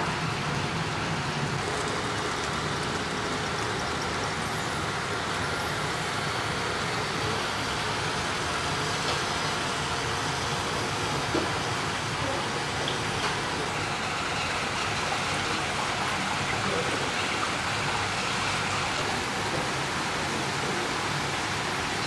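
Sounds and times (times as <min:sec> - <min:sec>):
model trains running on track: 0:00.0 - 0:22.0.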